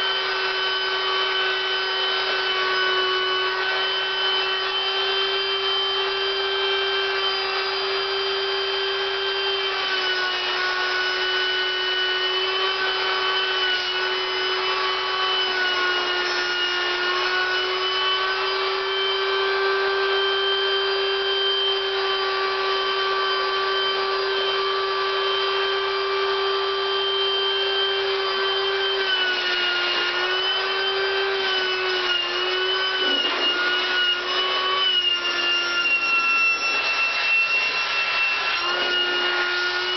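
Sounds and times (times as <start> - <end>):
electric air pump whining: 0.0 - 39.9.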